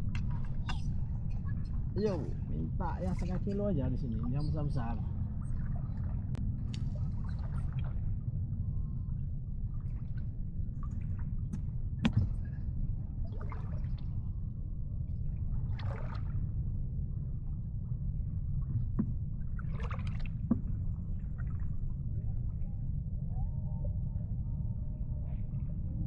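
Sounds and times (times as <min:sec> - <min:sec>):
water lapping and sloshing: 0:00.0 - 0:23.2
low rumble: 0:00.0 - 0:26.0.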